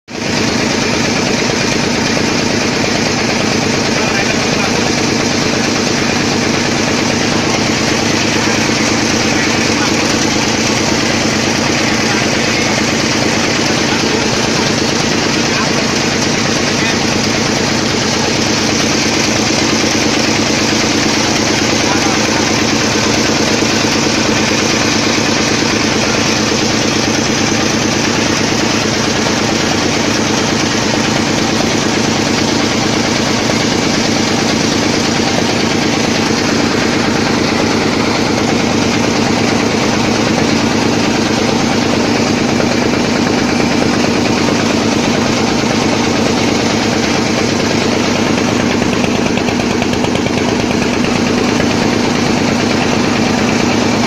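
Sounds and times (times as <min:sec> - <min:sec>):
boat engine running: 0:00.1 - 0:54.0.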